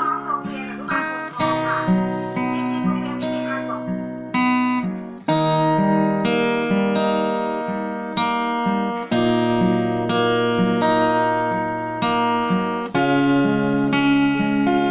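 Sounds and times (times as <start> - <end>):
acoustic guitar strumming chords: 0.0 - 14.9.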